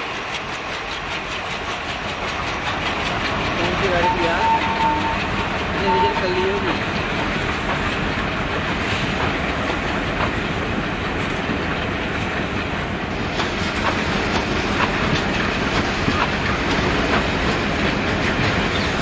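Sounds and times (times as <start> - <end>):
locomotive rumble: 0.0 - 19.0
wheels clacking over rail joints: 0.0 - 19.0.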